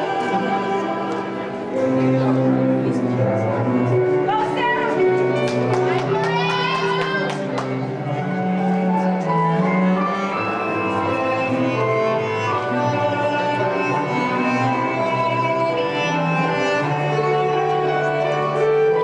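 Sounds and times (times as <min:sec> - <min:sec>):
slow string waltz: 0:00.0 - 0:19.0.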